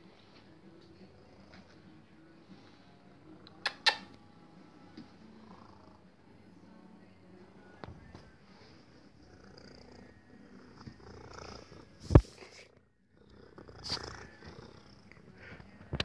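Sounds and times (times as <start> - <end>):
cat purring: 0.0 - 3.7, 4.6 - 16.0.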